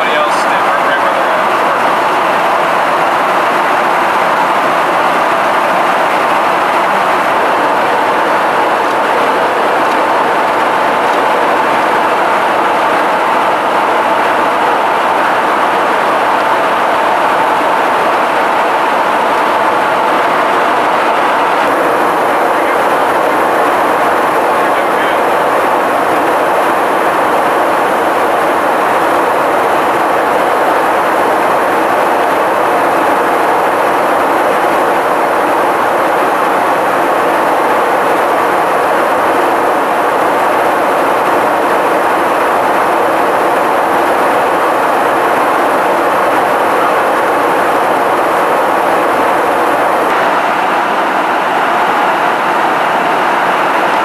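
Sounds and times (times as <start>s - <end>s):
jet engines and rushing air: 0.0s - 54.0s.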